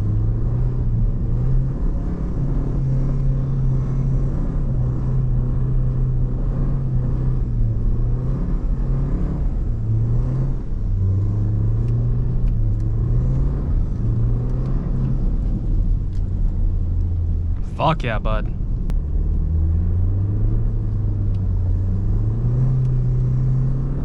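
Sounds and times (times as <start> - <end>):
car engine pulling under throttle: 0.0 - 17.7, 18.6 - 24.0.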